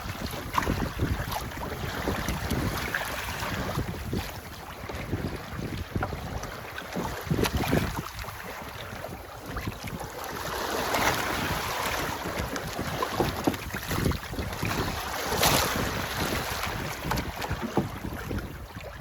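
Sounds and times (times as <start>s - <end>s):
water rushing along hull: 0.0s - 19.0s
wind buffeting microphone: 0.0s - 19.0s.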